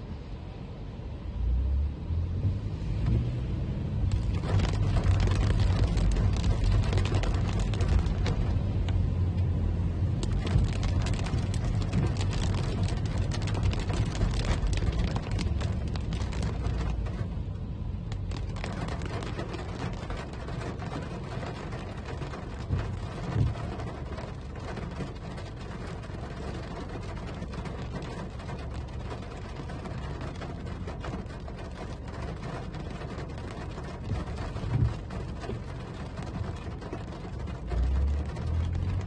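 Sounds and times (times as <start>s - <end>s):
car tyres on wet road: 0.0s - 39.0s.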